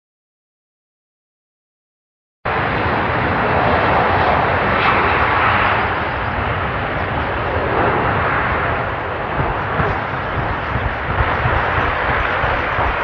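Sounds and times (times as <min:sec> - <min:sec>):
jet engine rushing: 0:02.5 - 0:13.0.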